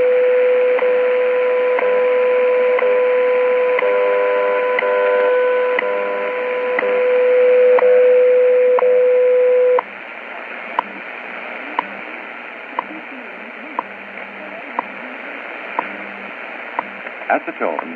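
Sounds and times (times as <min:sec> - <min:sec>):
steady radio tone: 0:00.0 - 0:17.9
radio ticks: 0:00.6 - 0:08.0, 0:09.8 - 0:17.9.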